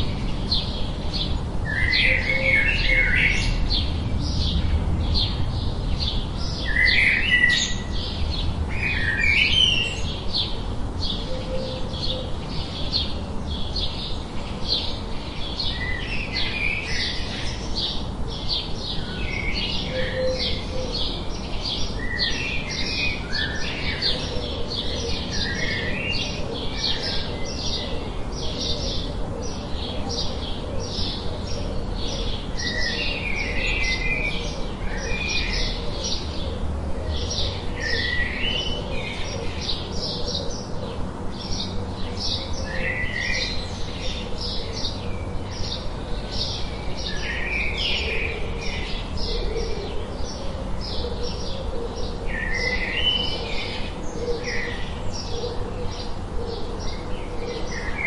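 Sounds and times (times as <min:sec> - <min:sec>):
birds singing and chirping: 0:00.0 - 0:58.0.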